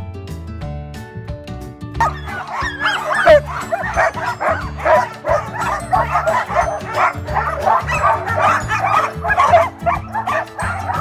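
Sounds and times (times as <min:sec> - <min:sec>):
background music: 0:00.0 - 0:11.0
sled dogs barking and yipping: 0:02.0 - 0:11.0.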